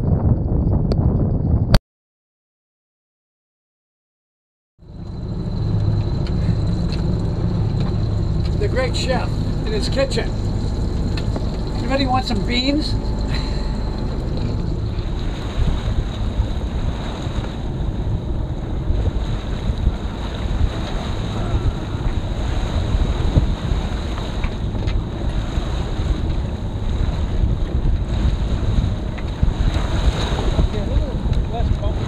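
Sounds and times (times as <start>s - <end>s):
wind buffeting microphone: 0.0s - 1.8s, 4.9s - 32.0s
water splashing along hull: 4.8s - 32.0s.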